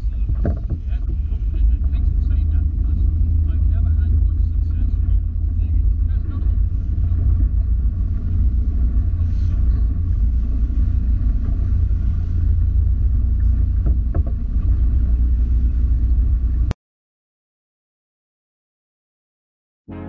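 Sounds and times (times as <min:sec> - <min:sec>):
water rushing past hull: 0:00.0 - 0:16.7
wind buffeting microphone: 0:00.0 - 0:16.7
boat engine: 0:00.0 - 0:16.8.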